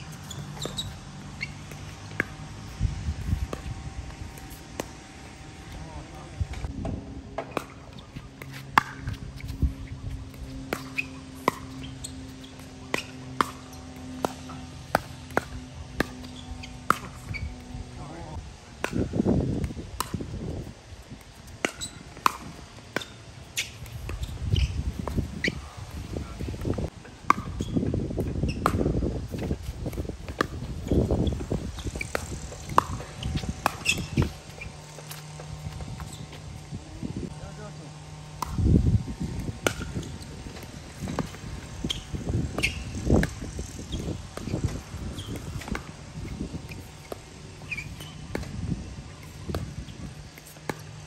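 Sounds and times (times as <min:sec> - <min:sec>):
ball bouncing on court: 0:00.0 - 0:05.3, 0:06.5 - 0:17.8, 0:21.6 - 0:26.7, 0:27.3 - 0:36.6, 0:38.3 - 0:38.6, 0:39.2 - 0:48.6, 0:49.2 - 0:50.9.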